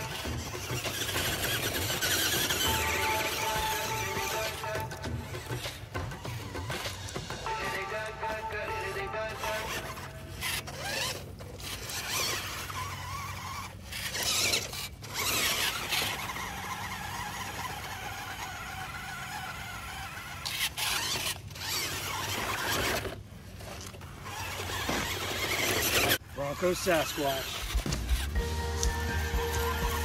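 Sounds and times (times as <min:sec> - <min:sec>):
rc truck motor whining: 0:00.0 - 0:30.0
tyres scrabbling in dirt: 0:00.0 - 0:30.0.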